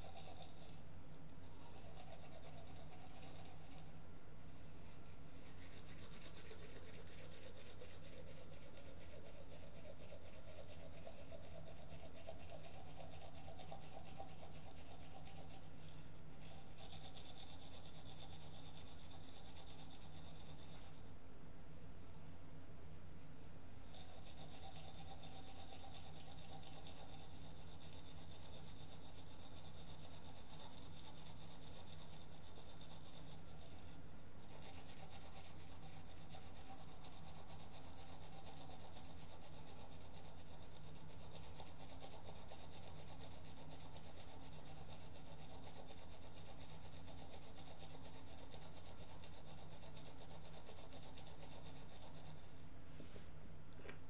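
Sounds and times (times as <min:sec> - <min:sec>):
toothbrush scrubbing teeth: 0:00.0 - 0:04.0, 0:04.8 - 0:21.1, 0:23.8 - 0:52.7.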